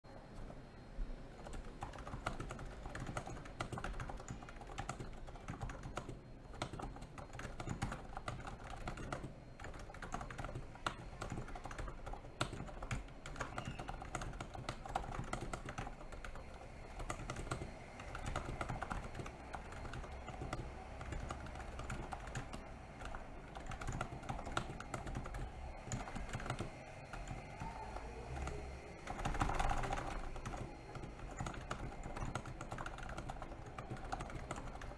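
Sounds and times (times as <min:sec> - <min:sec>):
keyboard typing: 0:01.3 - 0:34.9.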